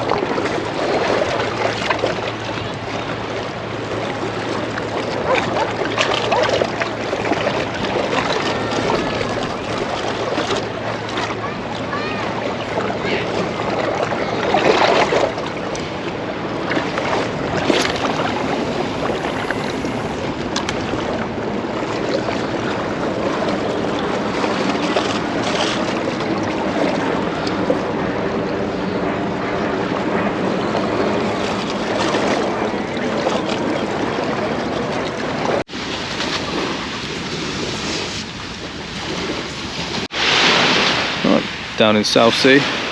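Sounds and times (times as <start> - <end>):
waves washing on shore: 0.0 - 28.2, 31.0 - 42.9
wind buffeting microphone: 0.0 - 41.8.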